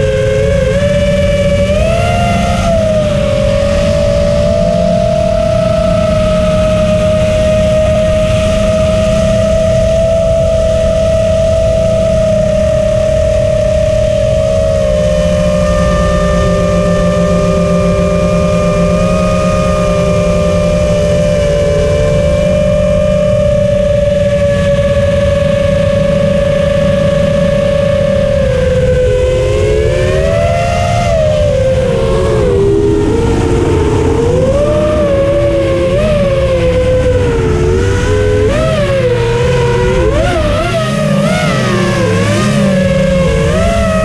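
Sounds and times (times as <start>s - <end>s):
drone motors whining: 0.0s - 44.0s
low rushing noise: 0.0s - 44.0s.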